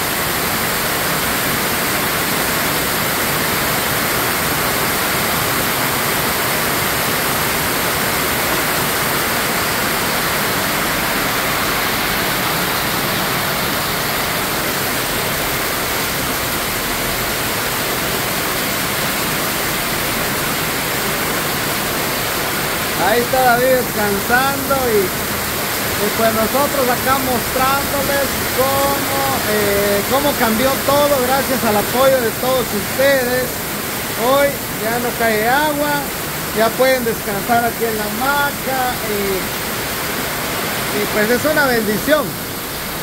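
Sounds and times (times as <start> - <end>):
heavy rain on a metal roof: 0.0 - 43.0.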